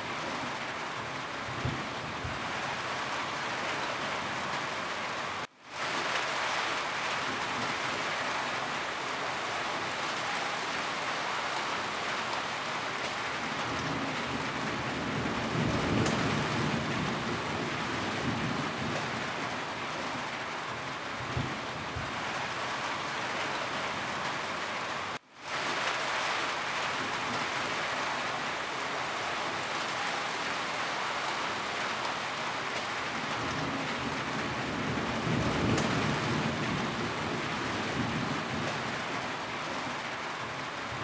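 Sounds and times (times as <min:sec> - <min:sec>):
heavy rain drumming on a roof: 0:00.0 - 0:41.0.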